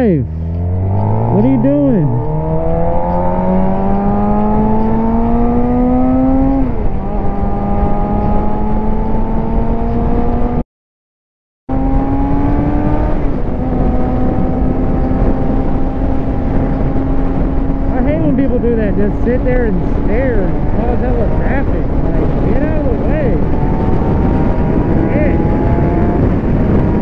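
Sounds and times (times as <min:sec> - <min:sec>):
motorcycle engine revving: 0:00.0 - 0:10.6, 0:11.7 - 0:27.0
wind rushing: 0:00.2 - 0:10.6, 0:11.7 - 0:27.0.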